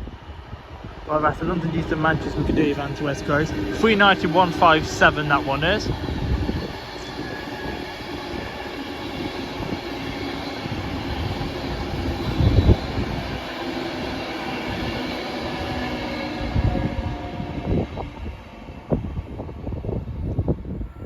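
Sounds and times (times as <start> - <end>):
train wheels rushing on rail: 0.0 - 21.0.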